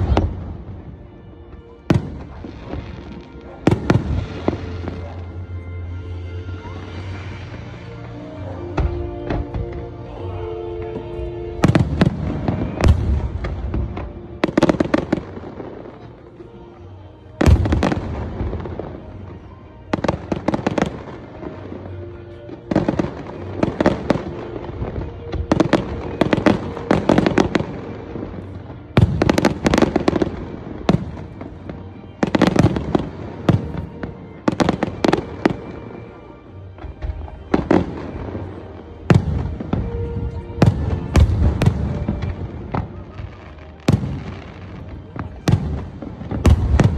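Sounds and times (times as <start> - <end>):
music playing: 0.0 - 46.9
fireworks bursting: 6.0 - 36.2, 36.8 - 46.9.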